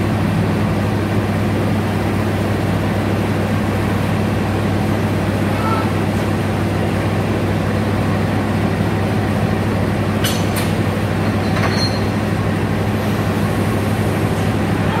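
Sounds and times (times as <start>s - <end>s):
locomotive idling hum: 0.0s - 15.0s.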